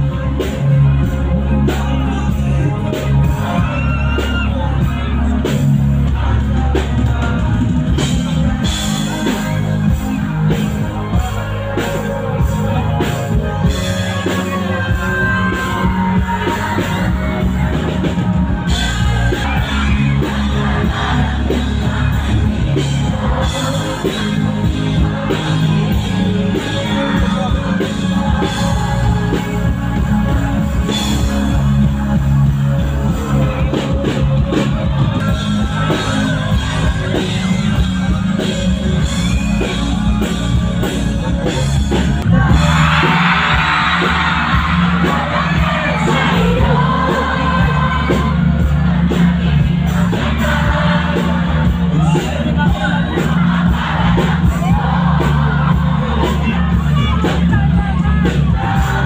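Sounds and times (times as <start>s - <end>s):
drum kit: 0.0s - 59.0s
heavy bass: 0.0s - 59.0s
person singing: 0.0s - 59.0s
rock band playing loudly: 0.0s - 59.0s.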